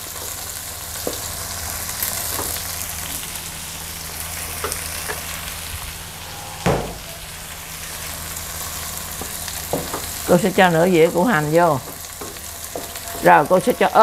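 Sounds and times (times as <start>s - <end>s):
food sizzling in butter: 0.0s - 14.0s.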